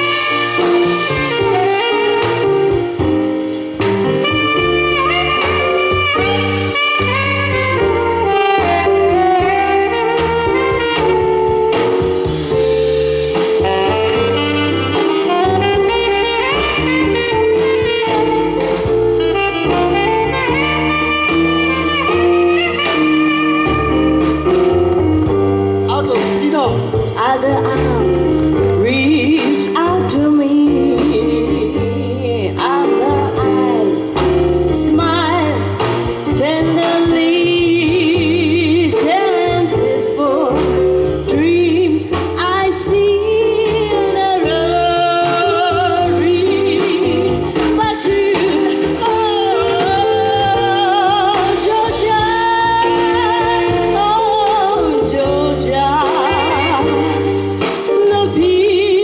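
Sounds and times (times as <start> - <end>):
jazz band playing: 0.0 - 59.0
upright bass: 0.0 - 59.0
woman singing jazz ballad: 0.0 - 59.0.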